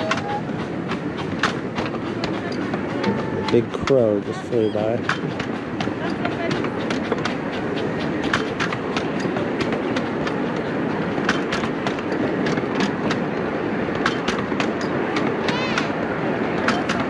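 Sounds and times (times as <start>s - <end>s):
clickety-clack wheel clicks: 0.0s - 16.0s, 16.6s - 17.0s
train cars rumbling on track: 0.0s - 17.0s.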